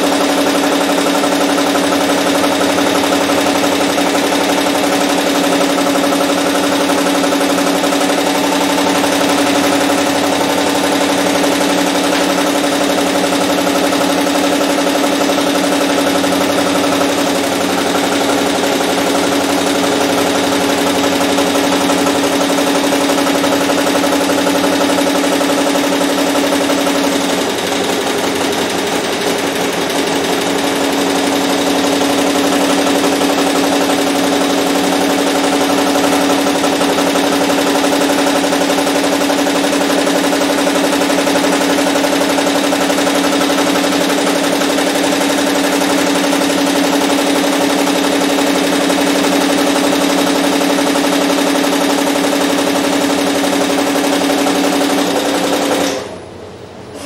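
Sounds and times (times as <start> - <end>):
embroidery machine stitching: 0.0 - 56.2.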